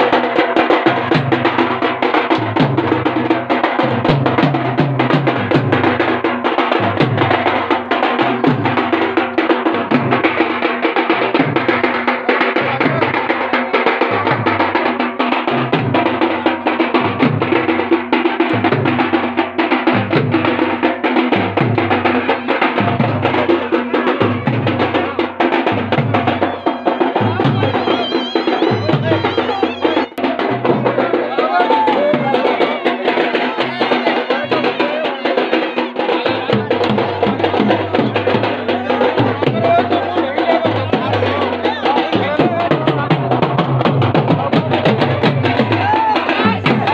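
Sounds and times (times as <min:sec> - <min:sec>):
other instruments playing: 0:00.0 - 0:43.4
dhol drums beaten with sticks: 0:00.0 - 0:46.9.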